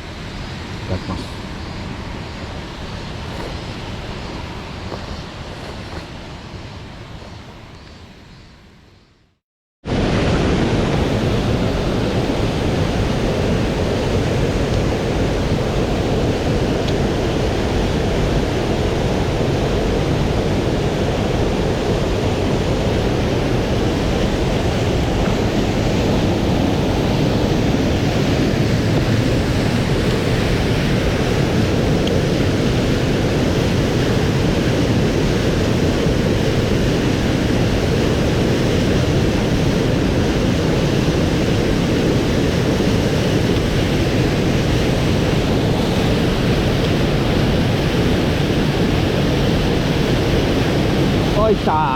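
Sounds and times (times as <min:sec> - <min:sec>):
mountain stream rushing: 0:00.0 - 0:07.6, 0:09.9 - 0:51.9.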